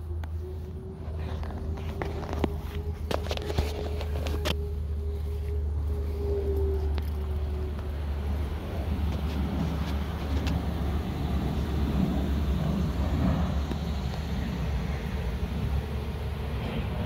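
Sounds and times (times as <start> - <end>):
constant low rumble: 0.0 - 17.0.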